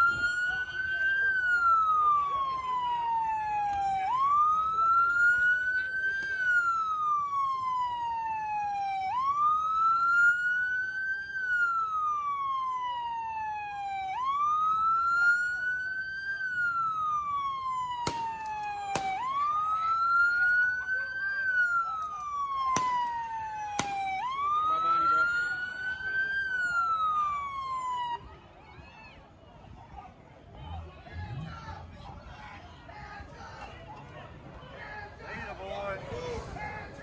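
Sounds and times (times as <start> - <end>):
police siren wailing: 0.0 - 29.7, 30.3 - 33.8.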